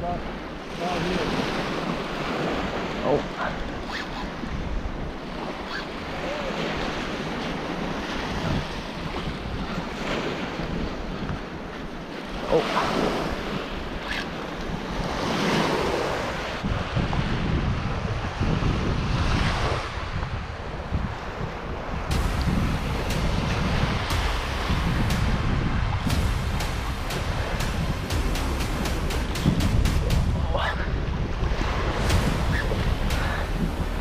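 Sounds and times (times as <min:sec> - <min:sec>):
ocean surf washing ashore: 0:00.0 - 0:34.0
wind buffeting microphone: 0:00.0 - 0:34.0.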